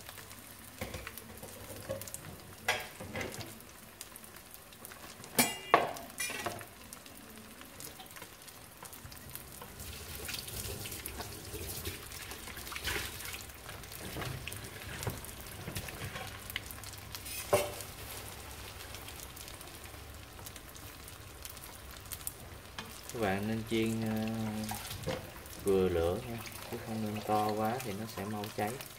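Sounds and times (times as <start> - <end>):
spring rolls sizzling in oil: 0.0 - 28.9.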